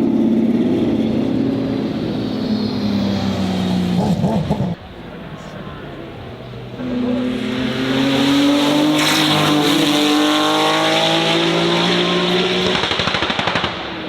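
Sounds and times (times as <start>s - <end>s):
car engine passing: 0.0s - 14.0s
engine crackle: 0.0s - 14.0s.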